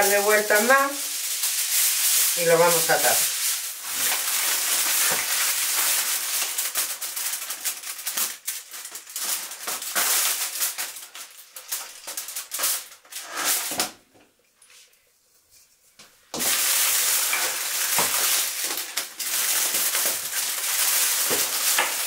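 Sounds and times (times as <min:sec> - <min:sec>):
aluminium foil crinkling: 0:00.0 - 0:14.0, 0:16.4 - 0:22.0.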